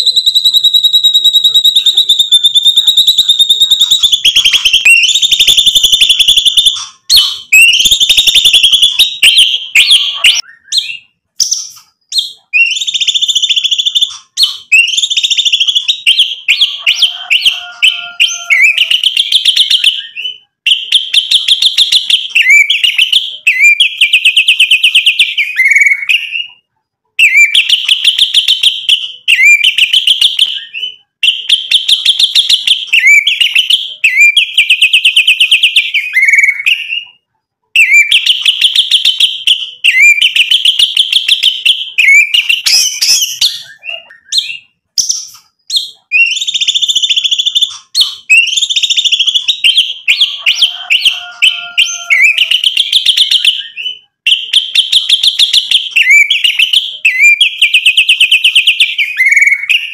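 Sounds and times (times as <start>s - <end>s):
bird singing rattling whistles: 0.0s - 26.3s, 37.8s - 59.9s.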